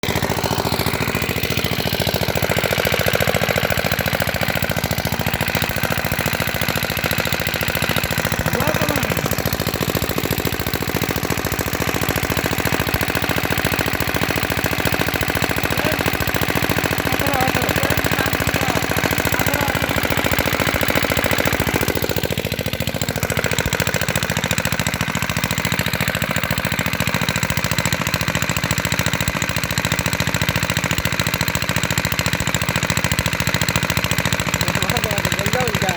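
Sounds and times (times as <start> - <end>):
diesel engine running steadily: 0.0 - 35.9.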